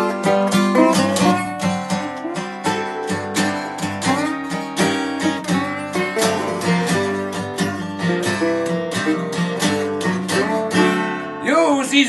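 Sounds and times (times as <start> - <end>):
acoustic blues guitar: 0.0 - 12.0.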